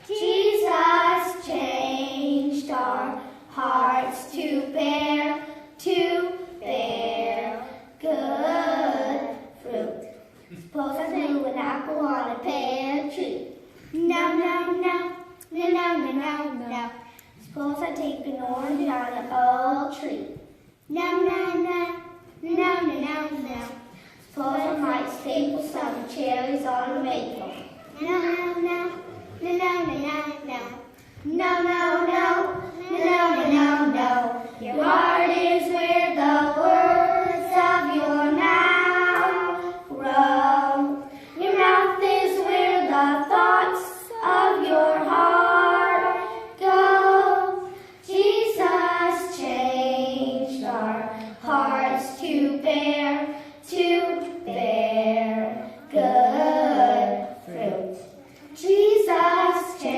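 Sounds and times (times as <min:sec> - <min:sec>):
young children singing: 0:00.0 - 0:59.9.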